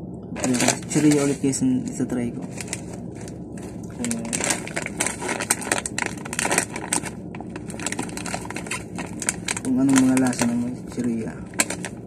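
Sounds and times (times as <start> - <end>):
plastic packet crinkling and tearing: 0.4 - 1.4, 2.4 - 12.0.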